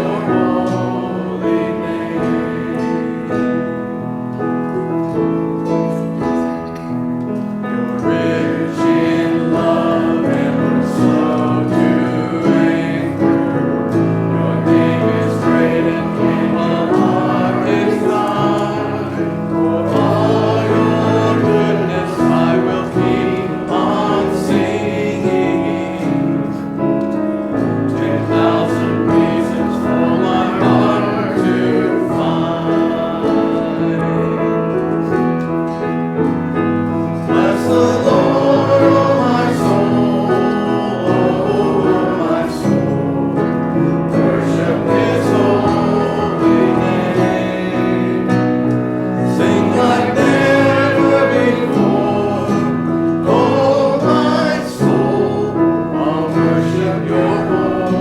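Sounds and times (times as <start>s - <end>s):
group singing worship song: 0.0s - 58.0s
piano accompaniment: 0.0s - 58.0s.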